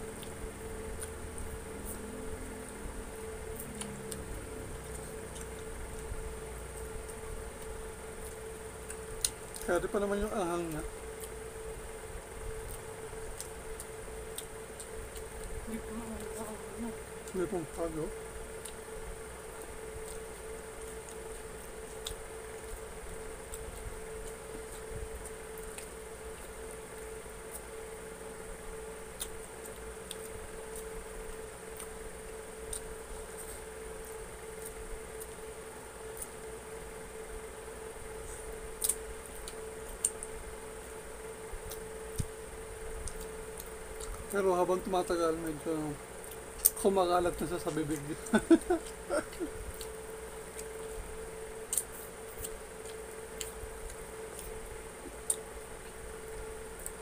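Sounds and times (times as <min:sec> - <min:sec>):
wet chewing sounds: 0:00.0 - 0:02.0, 0:02.6 - 0:09.8, 0:10.6 - 0:11.8, 0:12.5 - 0:27.9, 0:28.8 - 0:36.5, 0:38.1 - 0:44.4, 0:46.2 - 0:46.9, 0:47.6 - 0:57.0
steady hum: 0:00.0 - 0:57.0.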